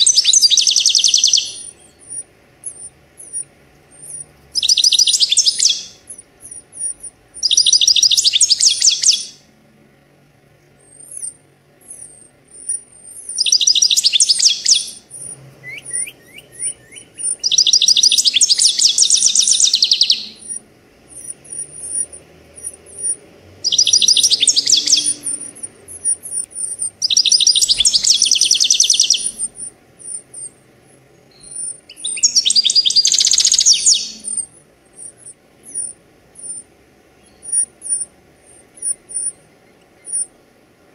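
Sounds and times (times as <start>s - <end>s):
bird trilling song: 0.0s - 9.5s, 10.5s - 40.9s
thin high bird calls: 0.0s - 9.5s, 10.6s - 40.5s.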